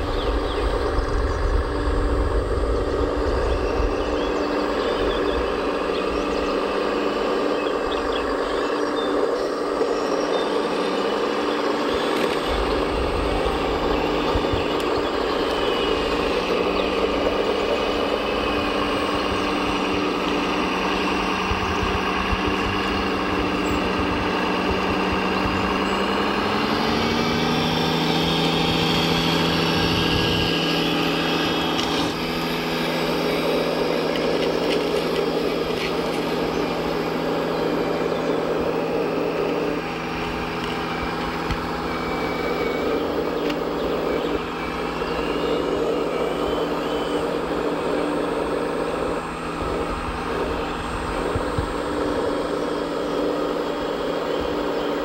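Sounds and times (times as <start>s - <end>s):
toy truck engine running: 0.0s - 55.0s.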